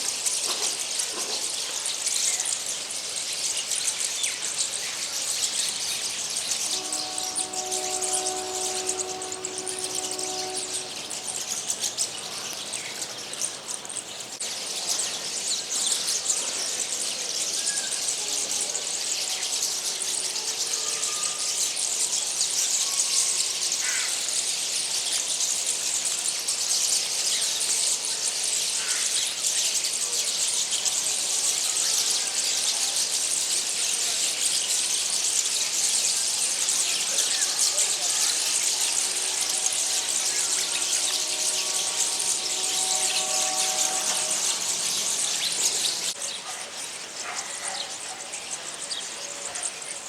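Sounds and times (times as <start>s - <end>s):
flock of small birds chattering: 0.0s - 50.0s.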